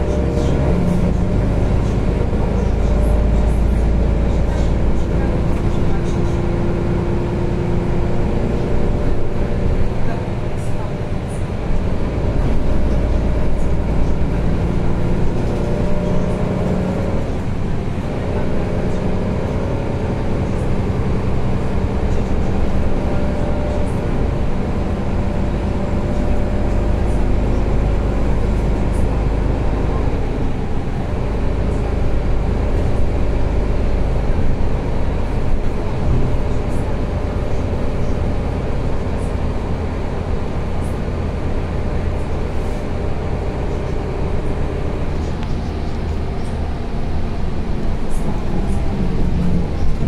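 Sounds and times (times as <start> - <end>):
bus engine rumble: 0.0 - 50.0.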